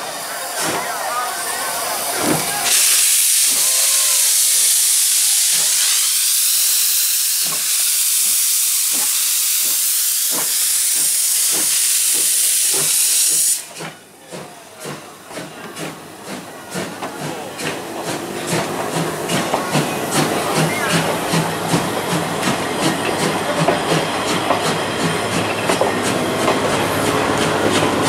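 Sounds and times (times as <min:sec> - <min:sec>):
steam hissing from cylinder cocks: 0:00.0 - 0:28.0
steam locomotive exhaust chuffs: 0:00.1 - 0:28.0.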